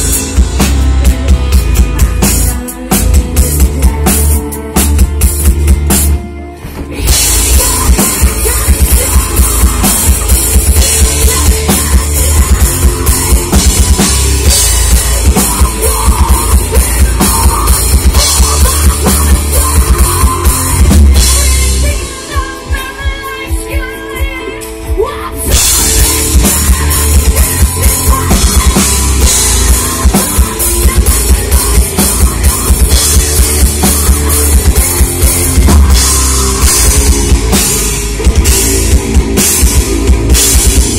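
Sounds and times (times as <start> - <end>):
metal band playing live: 0.0 - 40.9.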